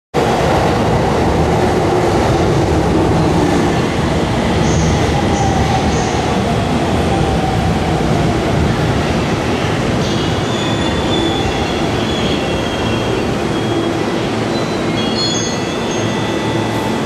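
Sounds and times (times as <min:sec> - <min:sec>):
electric train rumbling on tracks: 0:00.2 - 0:17.0.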